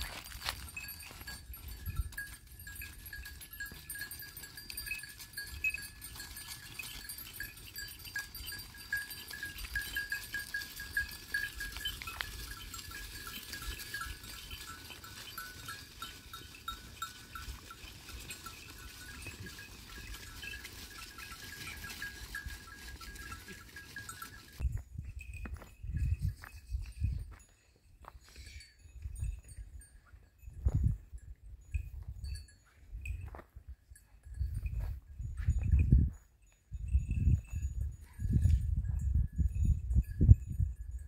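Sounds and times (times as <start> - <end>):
animal neck bells clinking: 0.0 - 41.0.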